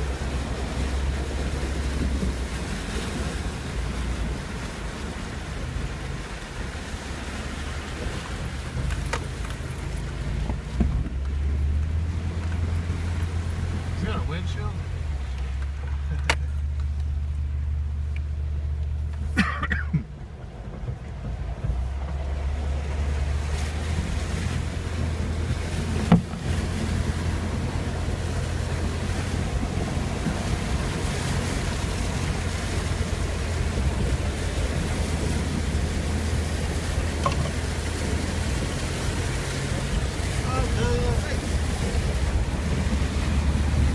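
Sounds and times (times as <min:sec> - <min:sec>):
rush of water: 0:00.0 - 0:43.9
tyres splashing through water: 0:00.0 - 0:43.9
vehicle engine running: 0:00.0 - 0:43.9.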